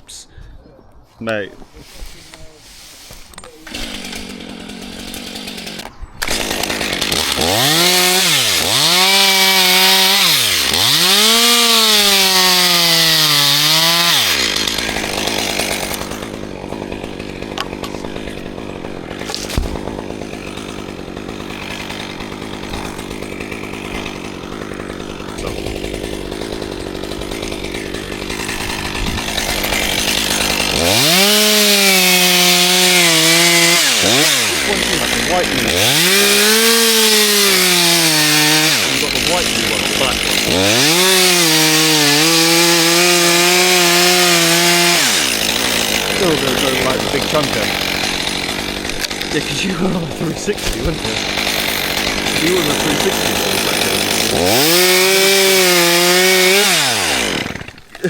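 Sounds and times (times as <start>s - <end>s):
chainsaw engine revving: 3.3s - 58.0s.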